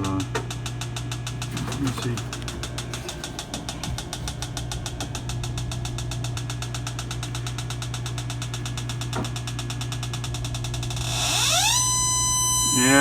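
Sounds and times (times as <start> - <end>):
leak detector rapid ticking: 0.0 - 13.0
steady low hum: 0.0 - 13.0.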